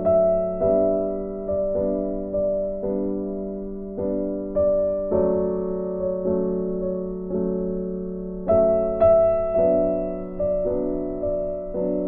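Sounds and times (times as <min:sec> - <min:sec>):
slow gentle piano tune: 0:00.0 - 0:12.0.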